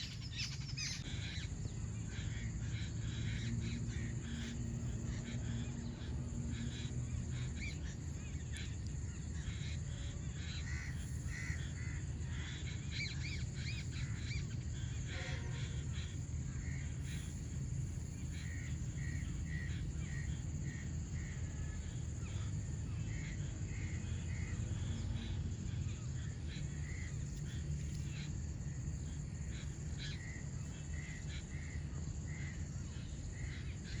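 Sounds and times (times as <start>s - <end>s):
birds chirping: 0.0s - 31.4s
constant high hiss: 0.0s - 34.0s
steady low rumble: 0.0s - 34.0s.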